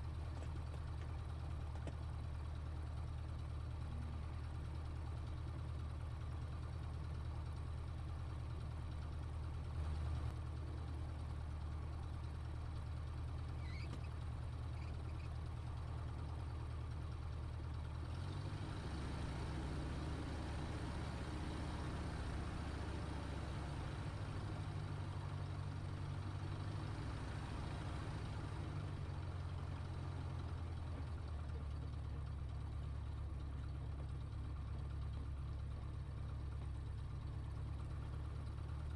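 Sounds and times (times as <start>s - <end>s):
propeller aircraft engine: 0.0s - 38.9s.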